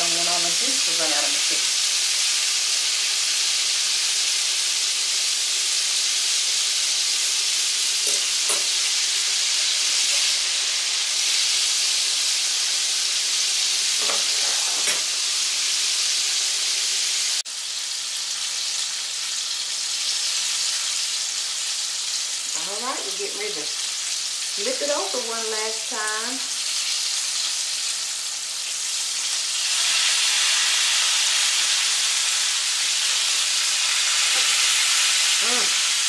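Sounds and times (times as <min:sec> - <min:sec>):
chicken frying in oil: 0:00.0 - 0:36.0.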